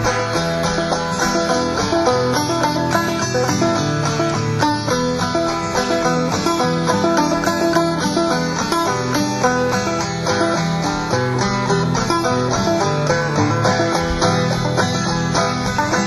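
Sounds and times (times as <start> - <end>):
acoustic guitar: 0.0 - 16.0
banjo: 0.0 - 16.0.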